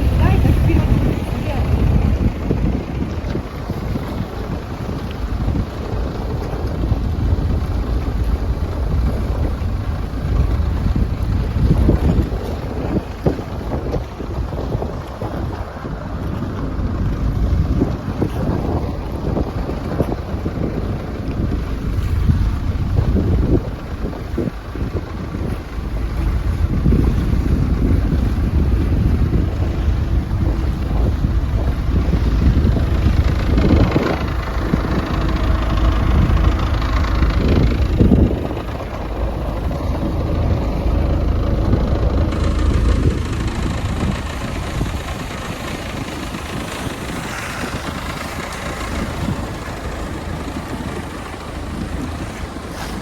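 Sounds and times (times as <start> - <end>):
motorboat running: 0.0 - 53.0
wind rumbling on microphone: 0.0 - 53.0.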